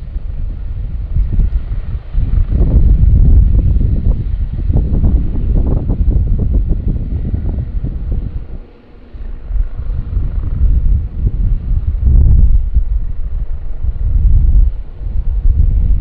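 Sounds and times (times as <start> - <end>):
distant helicopters: 0.0 - 16.0
wind buffeting microphone: 0.0 - 16.0.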